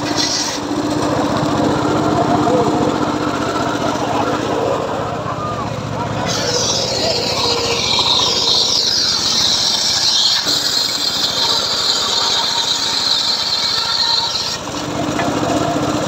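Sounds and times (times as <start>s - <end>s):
circular saw blade cutting wood: 0.0s - 5.2s, 5.8s - 16.0s
engine running: 0.0s - 16.0s.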